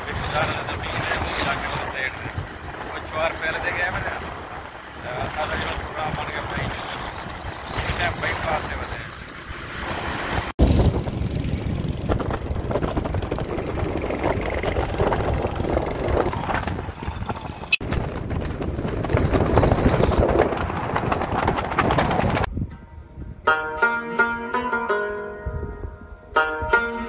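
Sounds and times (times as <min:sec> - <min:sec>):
vehicle engine and road noise: 0:00.0 - 0:22.5.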